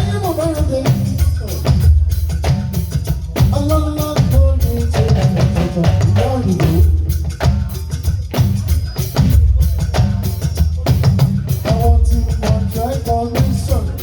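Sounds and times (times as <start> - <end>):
bass line: 0.0 - 14.0
drums and percussion: 0.0 - 14.0
melodic instrumental line: 0.0 - 14.0.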